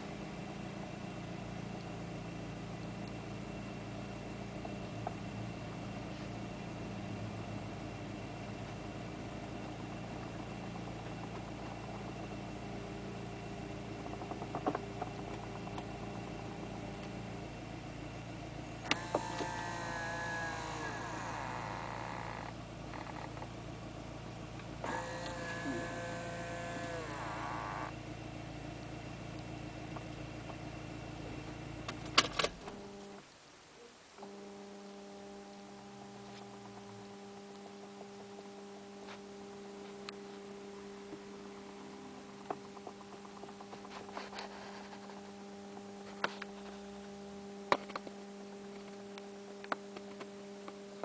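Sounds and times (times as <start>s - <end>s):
car engine running: 0.0s - 33.4s, 34.2s - 51.0s
steady electric hum: 0.0s - 51.0s.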